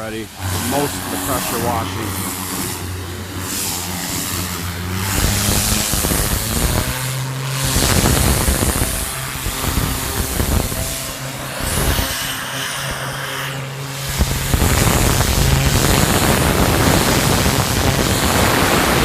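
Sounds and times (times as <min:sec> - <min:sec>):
pressure washer engine running: 0:00.0 - 0:19.0
water jet hissing on boards: 0:00.0 - 0:19.0.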